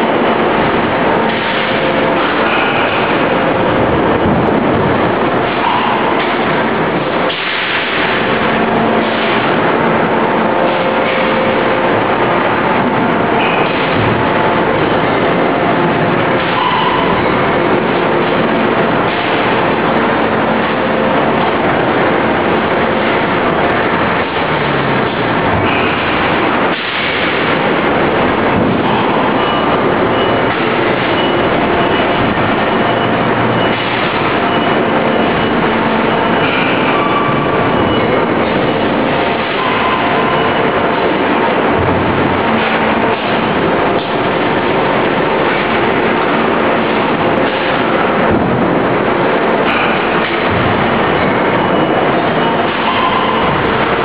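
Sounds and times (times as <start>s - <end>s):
industrial welding machinery: 0.0s - 54.0s.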